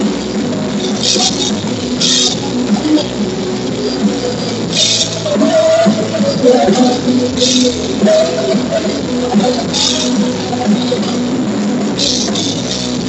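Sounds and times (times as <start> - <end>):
live rock band playing: 0.0 - 13.0
loud distorted bass: 0.0 - 13.0.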